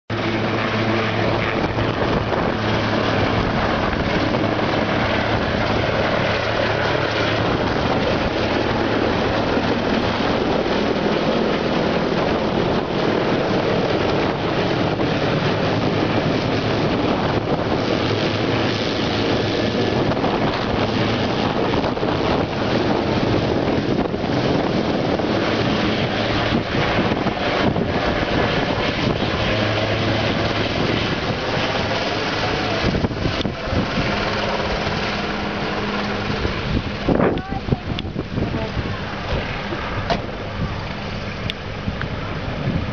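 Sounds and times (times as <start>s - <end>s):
helicopter rotor and engine: 0.1s - 42.9s.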